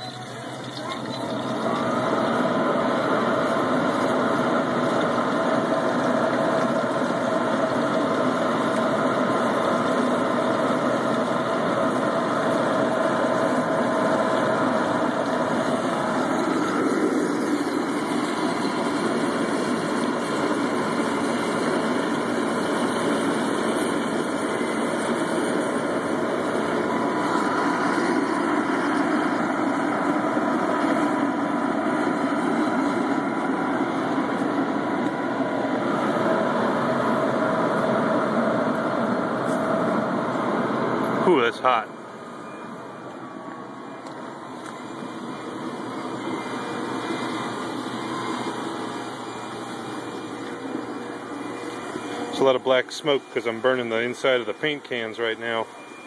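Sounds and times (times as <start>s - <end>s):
burner flames roaring: 0.3s - 55.2s
electric blower whine: 1.3s - 56.0s.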